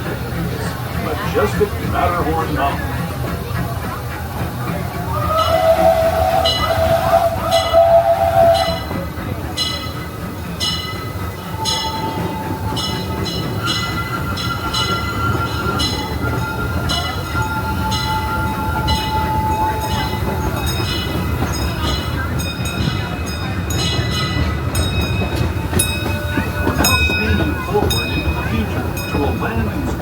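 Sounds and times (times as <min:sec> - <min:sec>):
train rumbling along track: 0:00.0 - 0:30.0.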